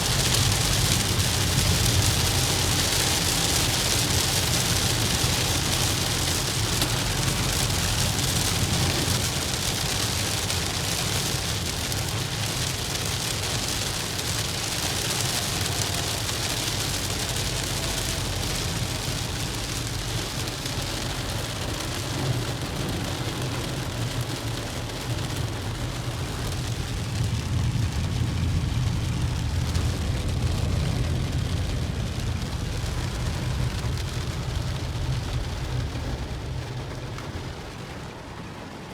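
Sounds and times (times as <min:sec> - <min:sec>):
rain and wet road spray: 0:00.0 - 0:38.9
road vehicle rumbling: 0:00.0 - 0:38.9.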